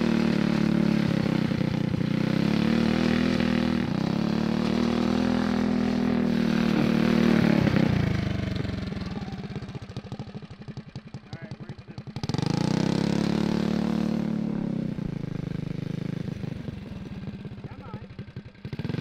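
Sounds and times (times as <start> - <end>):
go-kart engine revving: 0.0 - 19.0.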